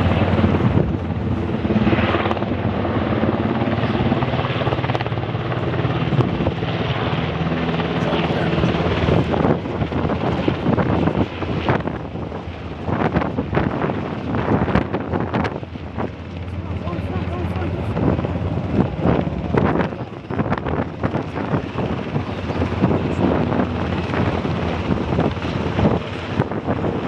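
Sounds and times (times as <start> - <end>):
helicopter rotor and engines hum: 0.0 - 27.0
wind gusts on microphone: 0.0 - 27.0.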